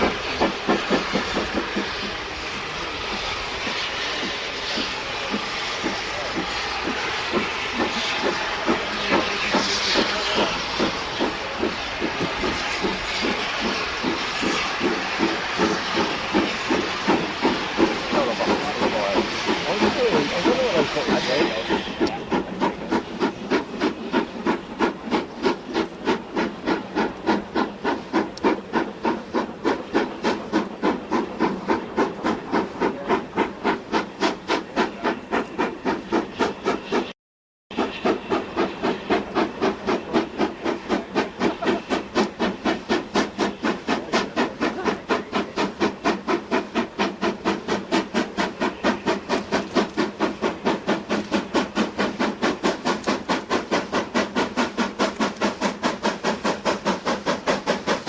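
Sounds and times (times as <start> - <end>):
steam locomotive exhaust beating: 0.0 - 37.1, 37.7 - 58.0.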